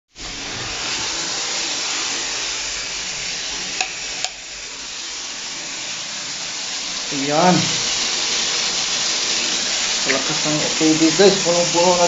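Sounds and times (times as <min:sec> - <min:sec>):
water spraying hiss: 0:00.1 - 0:12.0.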